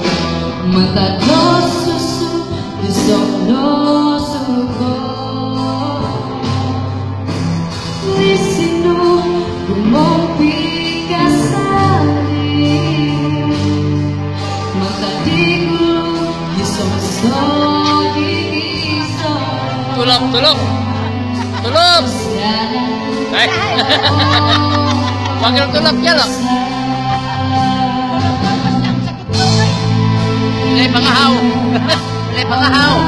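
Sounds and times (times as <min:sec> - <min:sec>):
person singing: 0:00.0 - 0:07.3, 0:08.0 - 0:33.0
instrumental backing music: 0:00.0 - 0:33.0.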